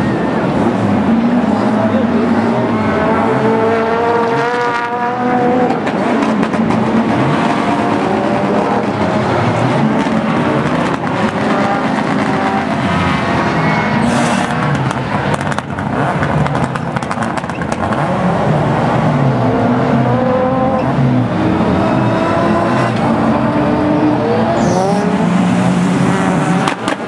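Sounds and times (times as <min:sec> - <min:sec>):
racing car engines revving: 0:00.0 - 0:27.0.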